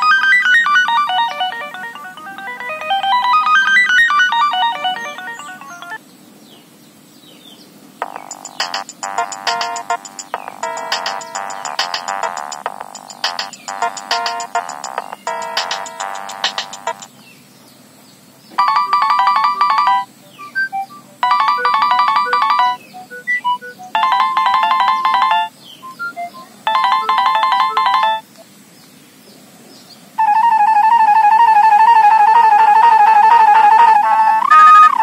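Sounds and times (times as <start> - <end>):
polyphonic ringtone melody: 0.0 - 6.0, 8.0 - 17.1, 18.6 - 28.3, 30.2 - 35.0
warbling ringtone tone: 0.0 - 6.0, 8.0 - 17.1, 18.6 - 28.2, 30.2 - 35.0.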